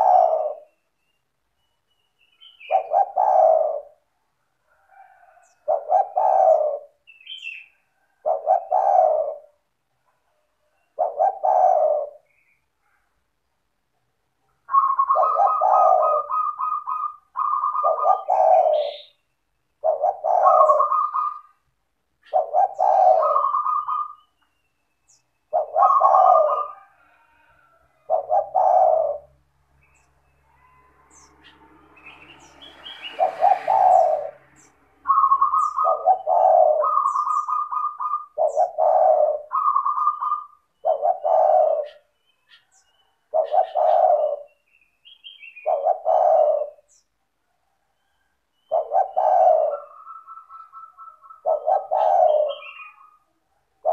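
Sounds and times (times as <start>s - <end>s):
dove cooing: 0.0s - 0.9s, 2.4s - 13.0s, 14.6s - 19.2s, 19.8s - 24.4s, 25.1s - 47.1s, 47.9s - 53.9s
small birds chirping: 0.0s - 4.0s, 5.1s - 13.3s, 14.4s - 53.9s.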